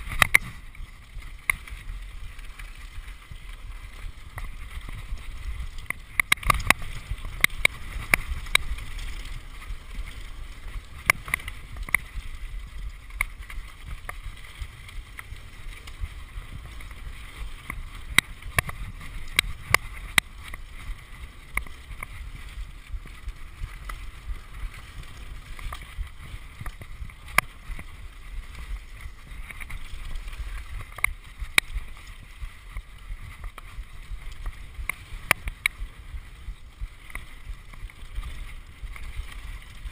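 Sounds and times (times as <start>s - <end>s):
bike rattling over rough ground: 0.0s - 39.9s
bike tyres rumbling on gravel: 0.0s - 39.9s
wind: 0.0s - 39.9s.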